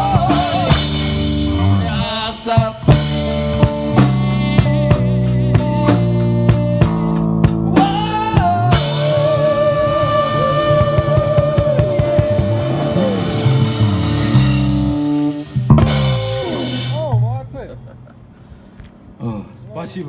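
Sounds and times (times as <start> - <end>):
rock band playing live: 0.0 - 17.6.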